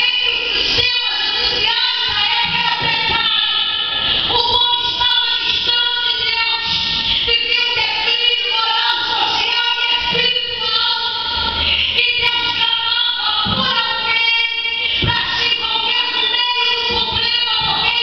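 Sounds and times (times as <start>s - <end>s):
woman singing through microphone: 0.0s - 18.0s.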